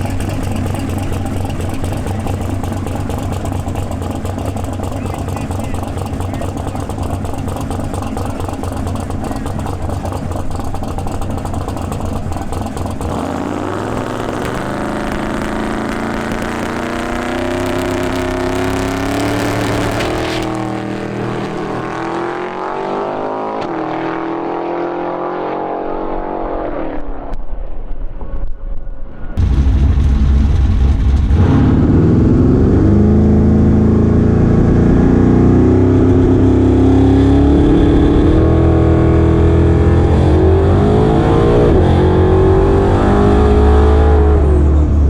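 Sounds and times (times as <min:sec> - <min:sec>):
drag car engine roaring: 0:00.0 - 0:45.0.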